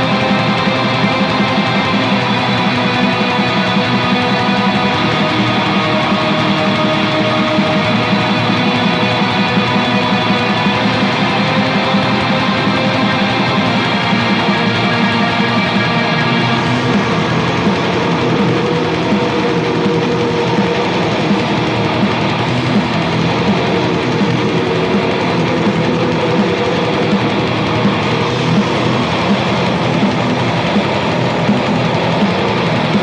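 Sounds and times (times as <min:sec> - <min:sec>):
distorted guitars black metal: 0:00.0 - 0:33.0.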